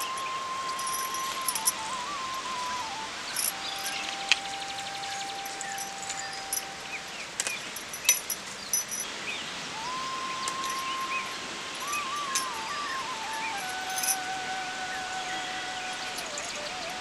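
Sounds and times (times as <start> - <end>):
soft flute-like background music: 0.0 - 8.3, 9.7 - 17.0
light rustling: 0.0 - 9.2, 9.8 - 17.0
birds chirping: 0.0 - 17.0.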